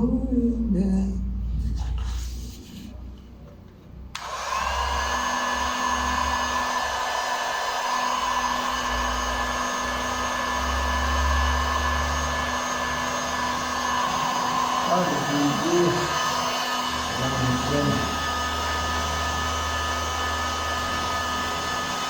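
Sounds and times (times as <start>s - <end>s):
small electric motor whining: 4.2s - 22.0s.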